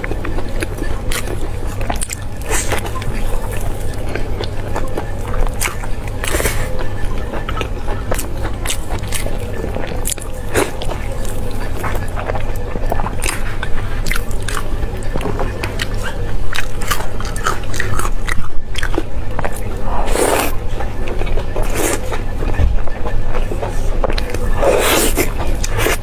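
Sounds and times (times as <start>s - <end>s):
chewing crisp food: 0.0s - 26.0s.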